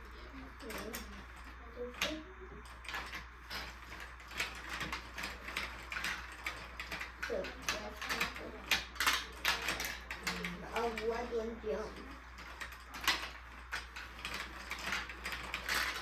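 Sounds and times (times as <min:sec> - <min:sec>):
marbles clattering down marble run: 0:00.6 - 0:16.0.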